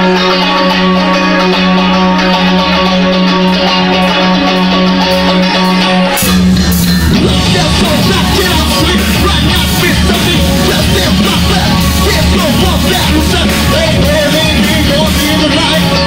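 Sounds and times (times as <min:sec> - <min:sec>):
electric guitar and bass chord: 0:00.0 - 0:16.0
live rock band playing: 0:00.0 - 0:16.0.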